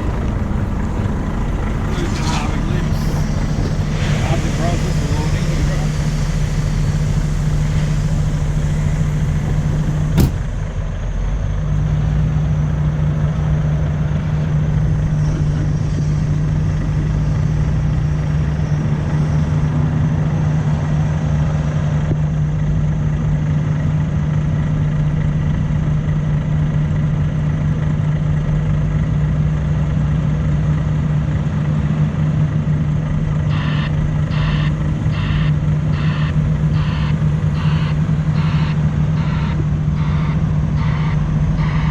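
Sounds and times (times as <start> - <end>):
diesel truck engine idling: 0.0 - 41.9.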